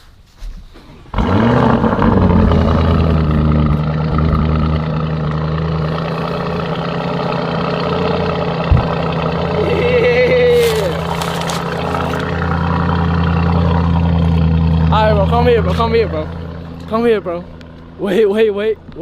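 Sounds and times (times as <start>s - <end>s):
car engine starting and idling: 0.8s - 19.0s.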